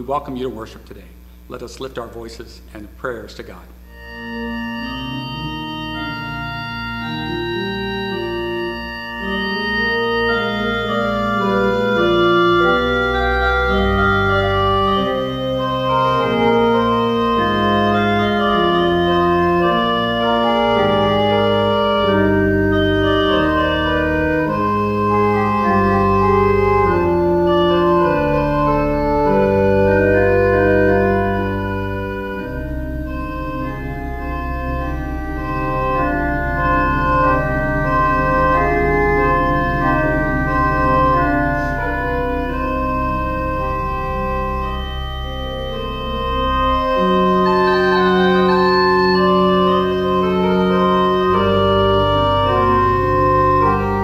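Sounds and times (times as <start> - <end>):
organ playing sustained chords: 0.0 - 54.0.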